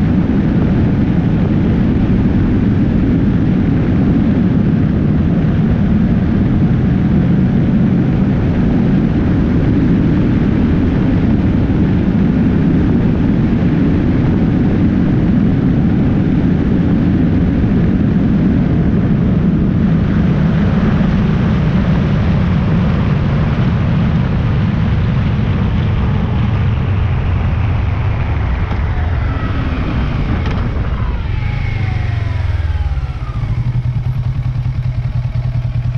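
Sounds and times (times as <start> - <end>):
motorcycle engine: 0.0 - 35.9
wind and road noise: 0.0 - 35.9.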